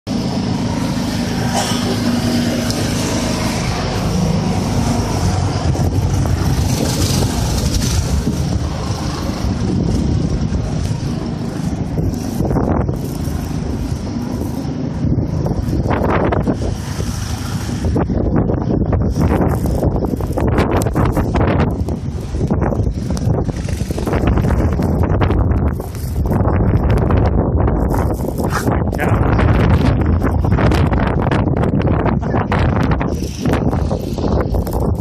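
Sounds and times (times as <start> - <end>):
blizzard wind buffeting microphone: 0.1 - 35.0.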